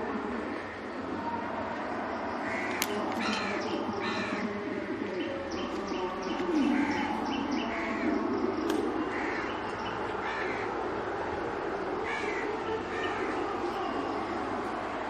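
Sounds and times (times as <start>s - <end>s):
bird calling: 0.0s - 14.4s
low rumbling noise: 0.0s - 15.0s.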